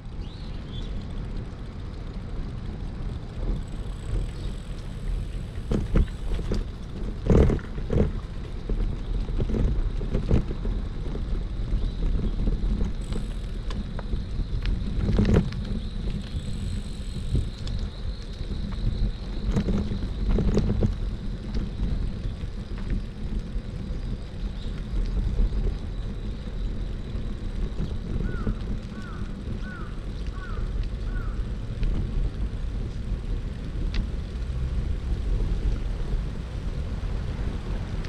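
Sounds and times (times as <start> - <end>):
low street rumble: 0.0 - 38.0.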